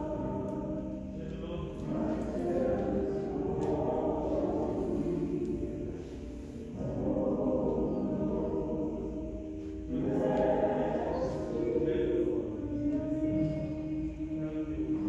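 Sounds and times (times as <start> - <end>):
church singing: 0.0 - 15.0
musical accompaniment: 0.0 - 15.0.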